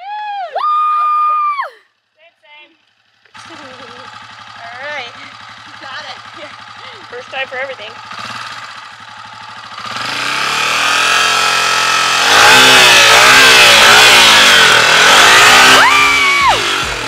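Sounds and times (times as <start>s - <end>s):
trail bike engine revving: 2.4s - 17.0s.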